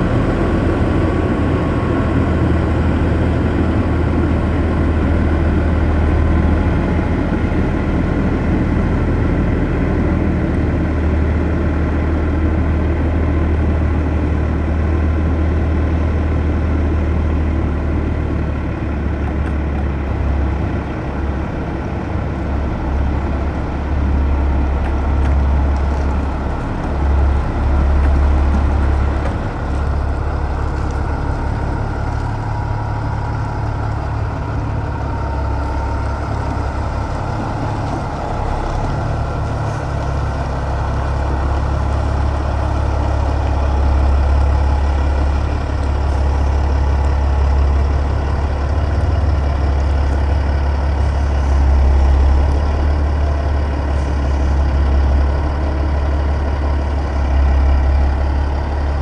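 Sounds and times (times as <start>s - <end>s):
diesel truck engine low drone: 0.0s - 59.0s.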